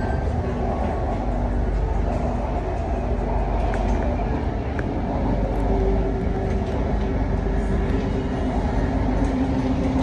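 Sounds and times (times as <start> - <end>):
train rumbling inside car: 0.0 - 10.0.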